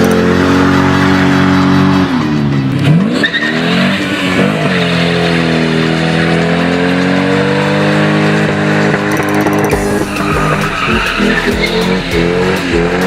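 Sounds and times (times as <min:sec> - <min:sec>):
car engine at high revs: 0:00.0 - 0:13.0
tyres skidding: 0:00.0 - 0:13.0.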